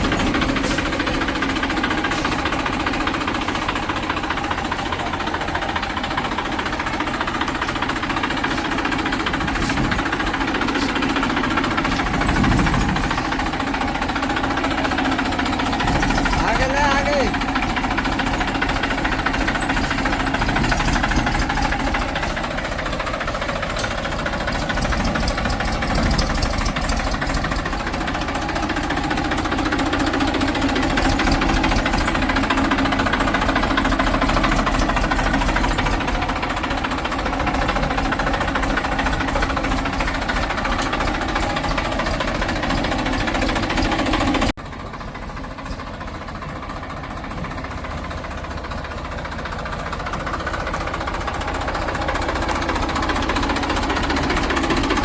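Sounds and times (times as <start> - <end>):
diesel machinery engine clattering: 0.0 - 55.0.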